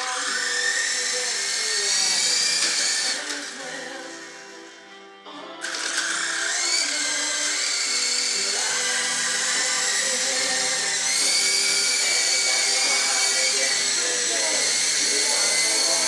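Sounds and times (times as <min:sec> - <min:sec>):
toy helicopter rotors whining: 0:00.0 - 0:04.7, 0:05.6 - 0:16.0.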